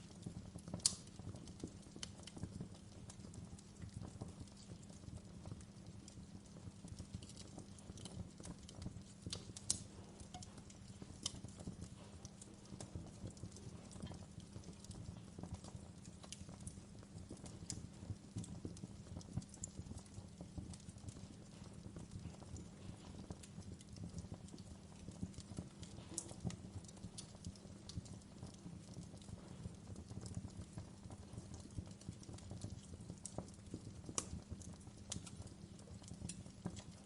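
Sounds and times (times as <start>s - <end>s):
fire rumbling: 0.0s - 37.0s
wood fire popping and snapping: 0.0s - 37.0s.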